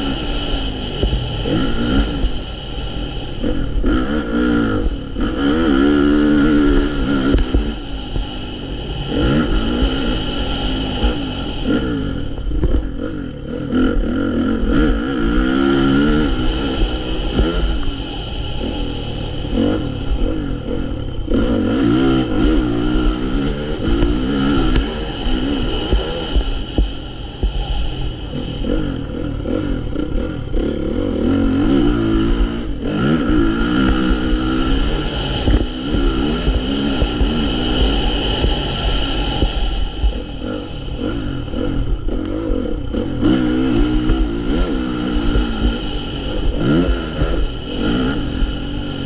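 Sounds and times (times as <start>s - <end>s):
low rumble: 0.0s - 49.0s
motocross bike engine revving: 0.0s - 49.0s.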